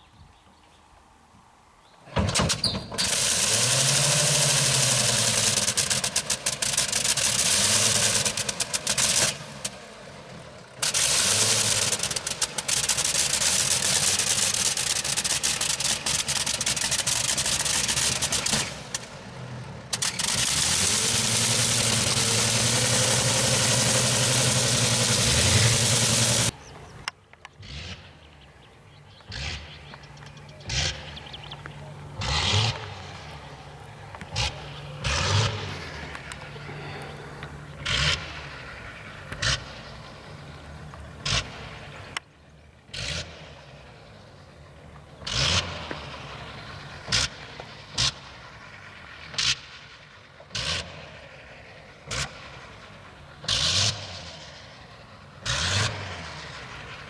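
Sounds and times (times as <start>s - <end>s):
biplane engine running: 2.2s - 49.7s.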